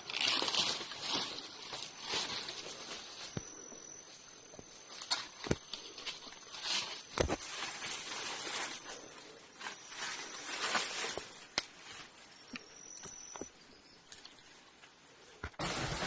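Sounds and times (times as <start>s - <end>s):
rustling through forest undergrowth: 0.0s - 16.0s.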